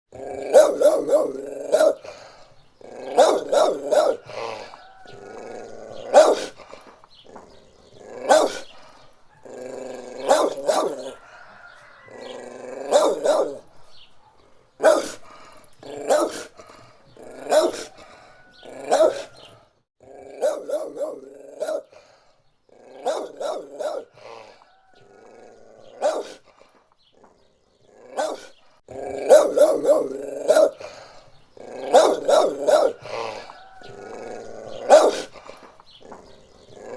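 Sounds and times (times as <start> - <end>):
dogs barking: 0.3 - 19.5, 20.2 - 22.2, 22.8 - 26.7, 28.0 - 36.9.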